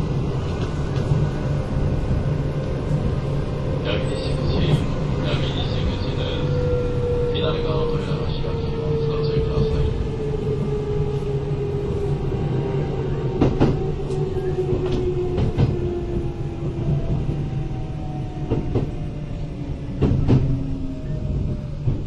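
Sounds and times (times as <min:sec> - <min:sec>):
train rumble with motor whine: 0:00.0 - 0:22.0.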